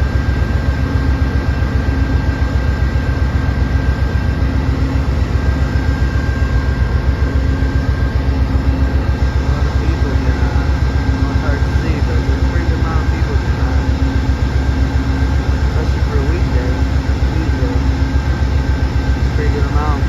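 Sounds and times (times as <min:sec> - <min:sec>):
diesel locomotive engine drone: 0:00.0 - 0:20.0
thin steady whine: 0:00.0 - 0:20.0.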